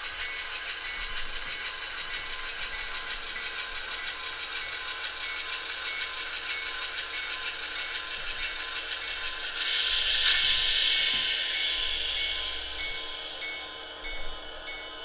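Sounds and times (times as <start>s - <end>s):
diesel engine sound from small speaker: 0.0s - 15.0s.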